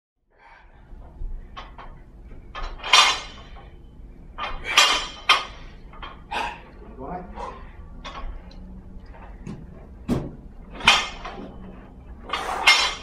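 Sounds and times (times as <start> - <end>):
barbell with kettlebells rattling: 1.0 - 13.0.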